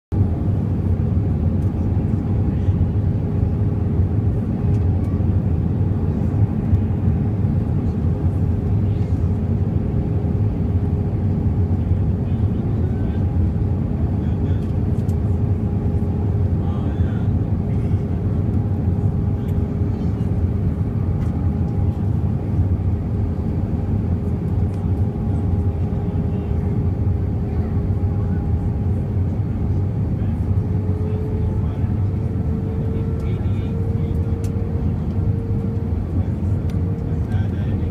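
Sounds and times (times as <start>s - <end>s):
aircraft cabin rumble: 0.1s - 37.9s.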